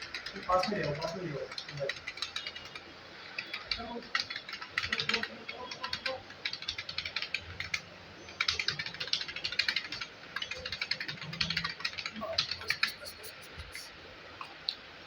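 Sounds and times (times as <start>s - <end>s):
computer keyboard keys clicking: 0.0s - 13.8s.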